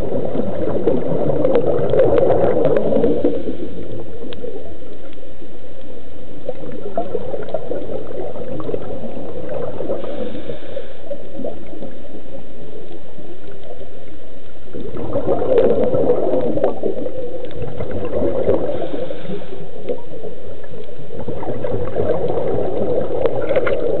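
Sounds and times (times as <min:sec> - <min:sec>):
underwater bubbling and gurgling: 0:00.0 - 0:24.0.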